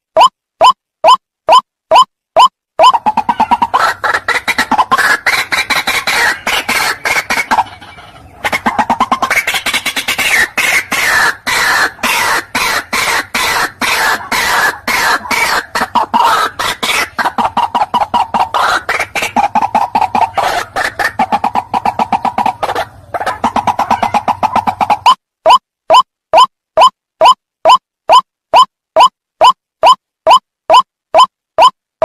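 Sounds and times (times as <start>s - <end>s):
bird calling harsh repeated notes: 0.1s - 31.8s.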